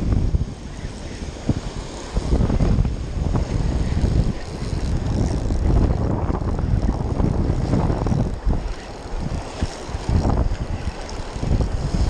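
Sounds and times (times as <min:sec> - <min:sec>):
surf washing and breaking: 0:00.0 - 0:12.0
wind buffeting microphone: 0:00.0 - 0:12.0.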